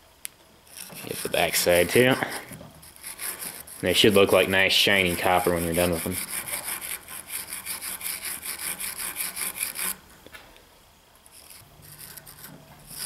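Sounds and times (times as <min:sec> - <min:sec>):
wire brush scrubbing metal: 0:00.7 - 0:10.0, 0:11.3 - 0:13.0.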